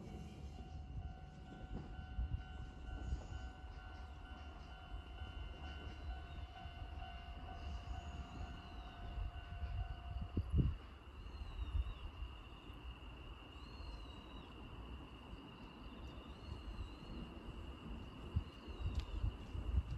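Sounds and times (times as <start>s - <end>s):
train equipment humming: 0.0s - 19.9s.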